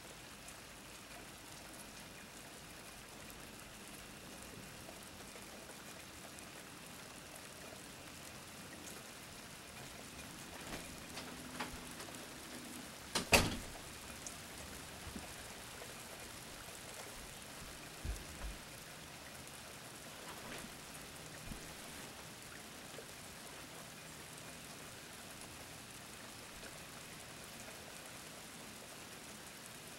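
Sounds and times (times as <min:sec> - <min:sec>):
steady rain: 0:00.0 - 0:29.9.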